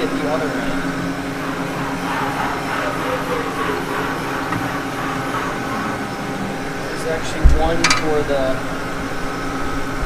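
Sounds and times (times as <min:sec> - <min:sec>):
fan-like mechanical hum: 0:00.0 - 0:10.0.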